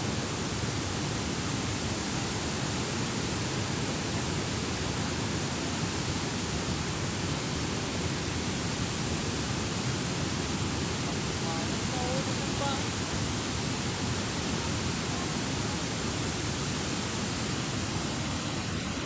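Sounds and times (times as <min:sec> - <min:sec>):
water rushing through spillway: 0:00.0 - 0:19.0.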